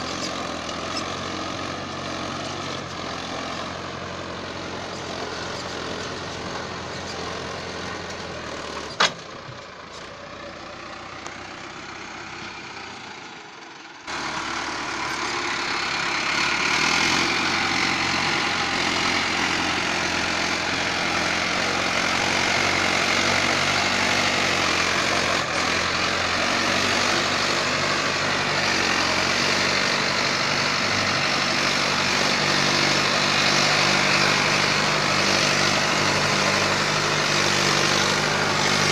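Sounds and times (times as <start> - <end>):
diesel tractor engine: 0.0 - 38.9.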